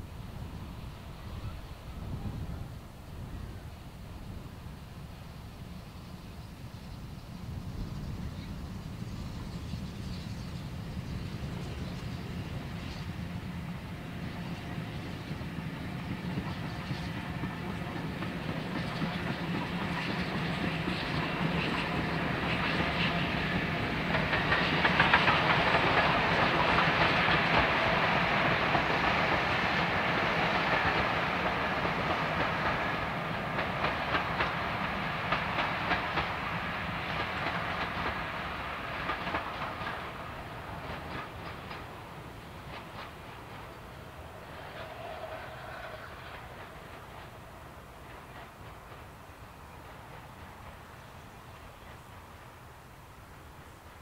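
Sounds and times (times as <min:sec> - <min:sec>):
steam train passing: 0:00.0 - 0:54.0.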